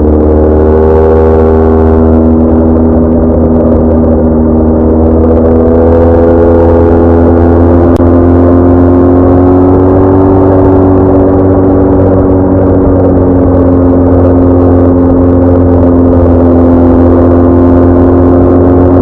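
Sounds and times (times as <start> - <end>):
low wind rumble: 0.0 - 19.0
motorcycle engine cruising: 0.0 - 19.0.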